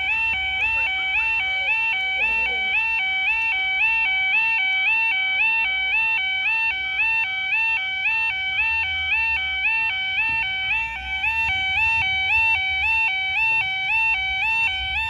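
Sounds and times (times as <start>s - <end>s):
two-tone warbling crossing alarm: 0.0s - 15.0s.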